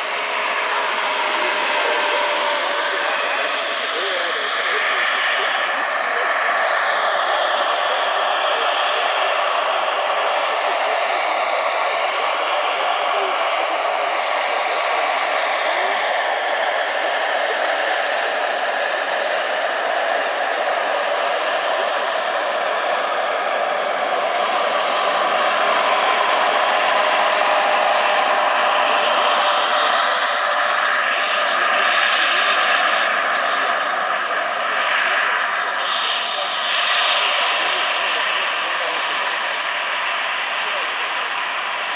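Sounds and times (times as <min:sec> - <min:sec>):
model helicopter turbine whine: 0:00.0 - 0:41.9
rotor rushing: 0:00.0 - 0:41.9.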